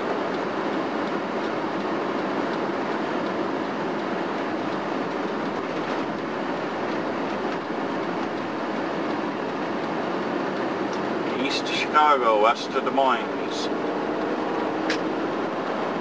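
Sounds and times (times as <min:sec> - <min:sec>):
vehicle road and engine noise: 0:00.0 - 0:16.0.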